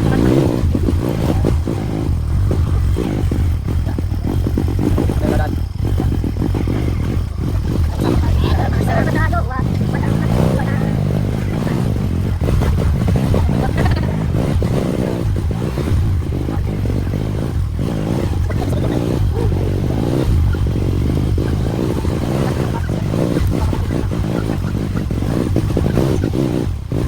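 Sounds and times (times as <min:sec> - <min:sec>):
motorcycle engine running: 0:00.0 - 0:27.0
rattles and knocks from motorcycle: 0:00.0 - 0:27.0.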